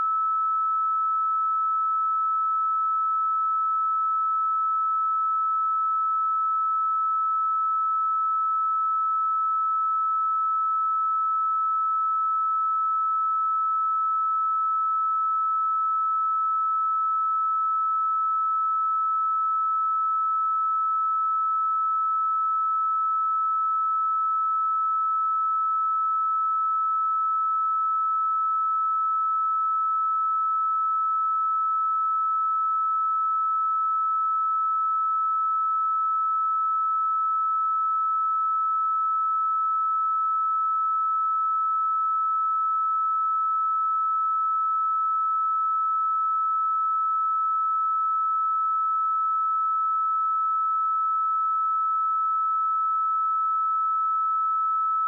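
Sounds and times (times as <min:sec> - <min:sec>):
sine-wave test tone: 0:00.0 - 0:55.0.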